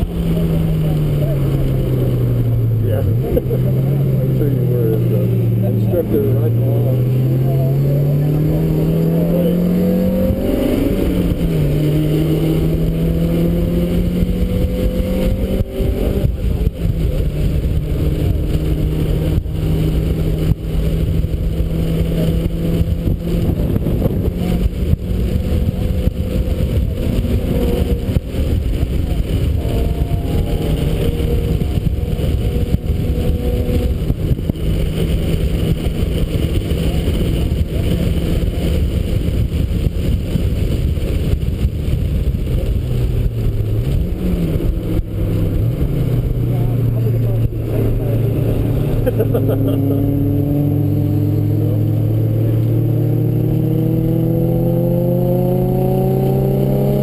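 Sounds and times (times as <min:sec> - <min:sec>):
car engine revving at full throttle: 0:00.0 - 0:57.0
wind and road noise: 0:00.0 - 0:57.0.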